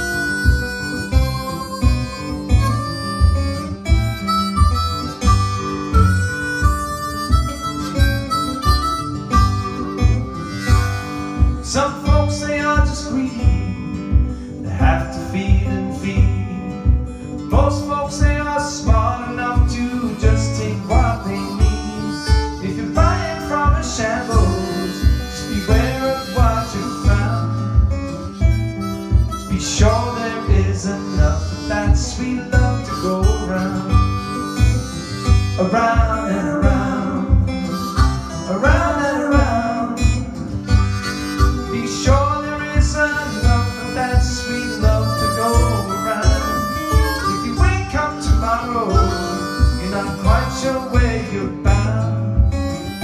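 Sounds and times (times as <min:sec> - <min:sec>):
acoustic guitar: 0:00.0 - 0:53.0
harmonica playing blues: 0:00.0 - 0:53.0
steady low beat: 0:00.0 - 0:53.0.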